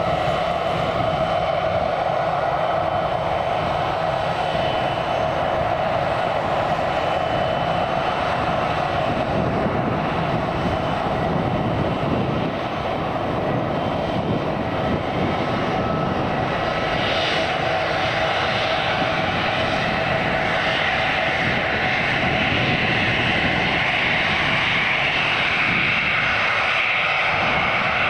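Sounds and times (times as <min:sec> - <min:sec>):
jet engines droning: 0:00.0 - 0:28.0.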